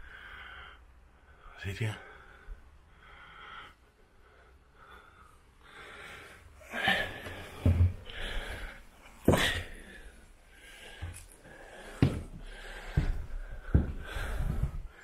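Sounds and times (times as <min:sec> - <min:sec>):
person breathing: 0:00.0 - 0:15.0.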